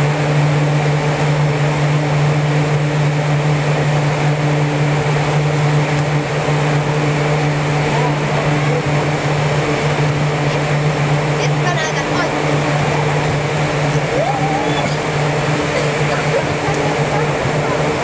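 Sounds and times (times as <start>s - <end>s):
blower fans humming: 0.0s - 18.0s.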